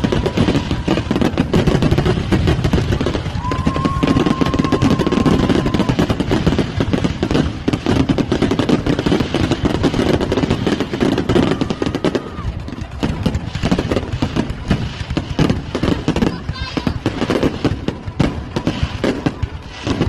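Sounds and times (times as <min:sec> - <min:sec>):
firework whistle: 0:00.0 - 0:20.0
fireworks bangs and crackles: 0:00.0 - 0:20.0.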